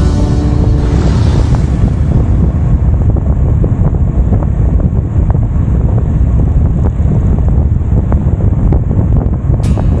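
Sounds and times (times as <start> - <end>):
motorcycle engine and road noise: 0.0 - 10.0
wind buffeting microphone: 0.0 - 10.0.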